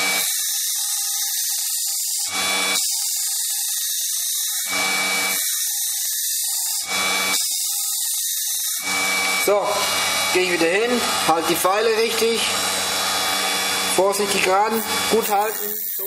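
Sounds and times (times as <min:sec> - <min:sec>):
cutter grinding foam: 0:00.0 - 0:16.0.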